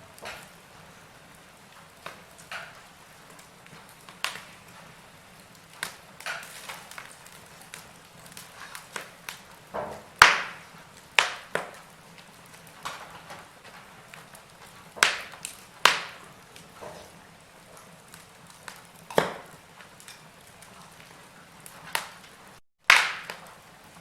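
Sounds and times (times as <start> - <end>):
faint steady hiss: 0.0 - 24.0
wood fire crackling and popping: 0.0 - 24.0.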